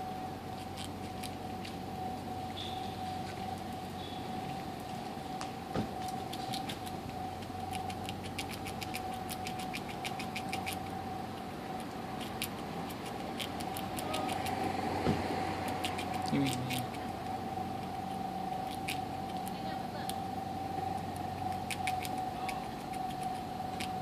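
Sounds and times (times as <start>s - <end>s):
squirrel gnawing and chewing: 0.0s - 24.0s
steady thin hum: 0.0s - 24.0s.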